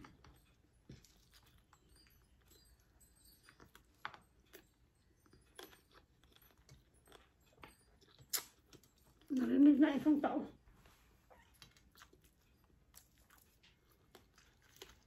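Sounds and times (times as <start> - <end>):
faint chewing: 0.0 - 9.7, 11.3 - 15.0.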